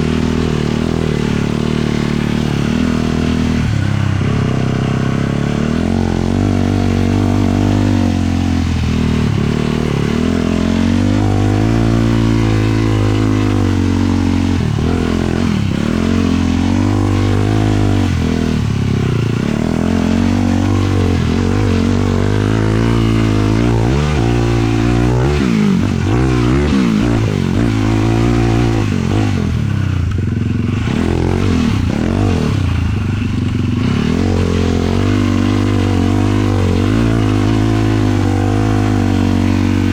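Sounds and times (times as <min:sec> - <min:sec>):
quad engine revving under load: 0:00.0 - 0:39.9.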